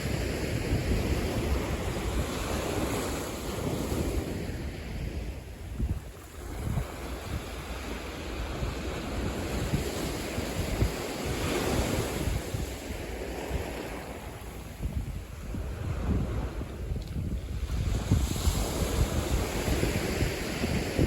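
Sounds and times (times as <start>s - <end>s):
ocean waves breaking on beach: 0.0s - 21.0s
wind buffeting microphone: 0.0s - 21.0s.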